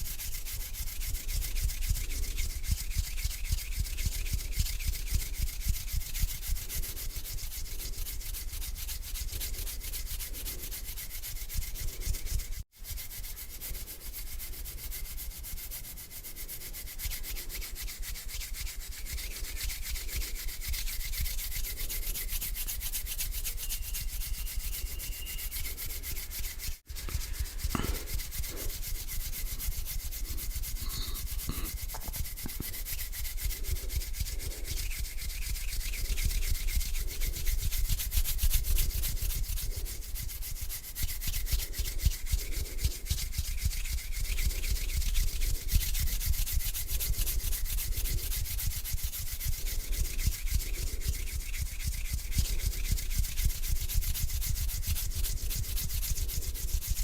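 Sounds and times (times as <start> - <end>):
hands rubbing together: 0.0 - 57.0.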